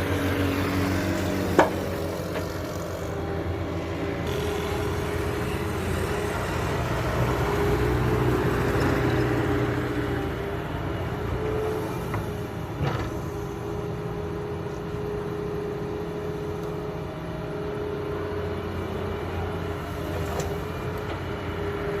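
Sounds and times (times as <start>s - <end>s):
excavator diesel engine whining: 0.0s - 22.0s.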